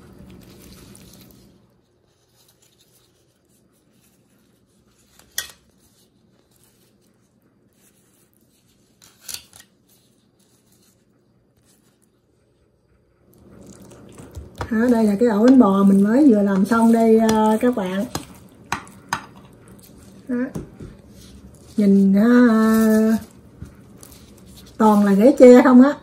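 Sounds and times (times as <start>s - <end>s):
faint handling rustling: 0.0s - 25.7s.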